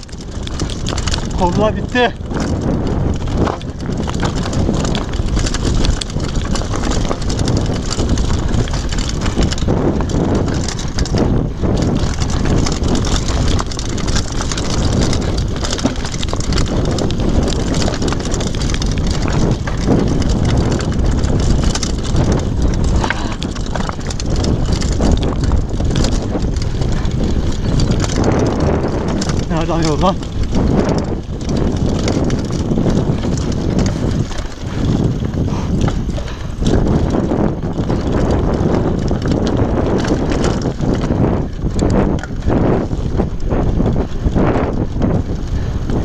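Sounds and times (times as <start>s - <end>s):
mountain bike rattling over rocks: 0.0s - 46.0s
wind on microphone: 0.0s - 46.0s.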